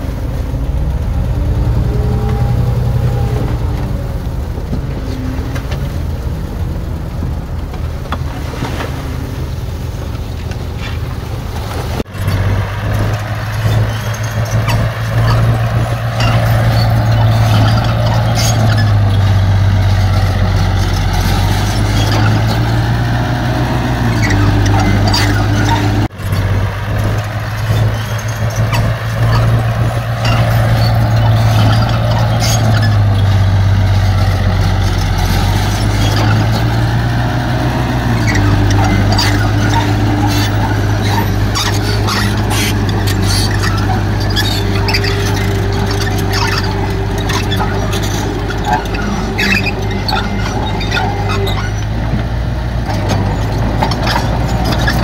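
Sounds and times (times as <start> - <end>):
heavy diesel engine running: 0.0 - 55.0
metal clanks and rattles: 9.7 - 55.0.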